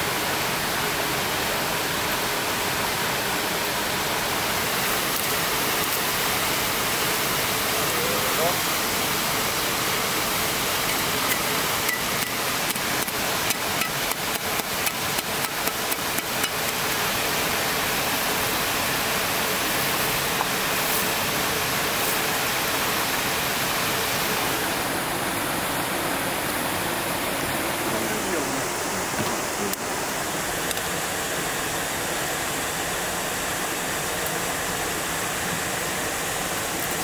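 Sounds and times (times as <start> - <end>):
flowing water: 0.0 - 37.0.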